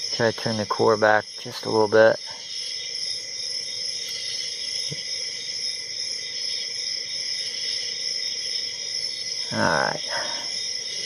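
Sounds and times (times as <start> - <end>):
high-pitched background hiss: 0.0 - 11.0.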